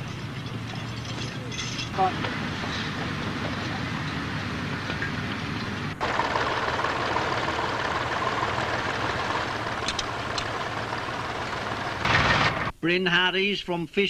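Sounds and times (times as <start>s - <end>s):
plough mechanical clatter: 0.0s - 12.7s
tractor engine running: 0.0s - 12.7s.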